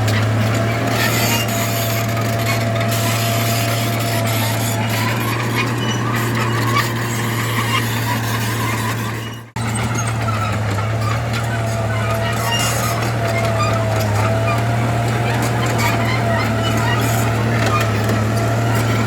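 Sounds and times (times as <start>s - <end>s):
diesel machinery engine hum: 0.0s - 19.0s.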